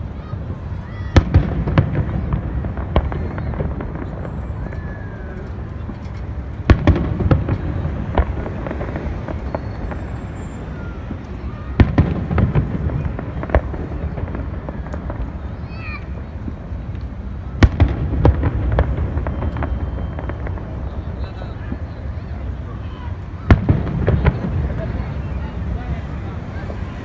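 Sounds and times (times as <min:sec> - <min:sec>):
crowd murmur: 0:00.0 - 0:27.0
fireworks bangs: 0:00.0 - 0:27.0.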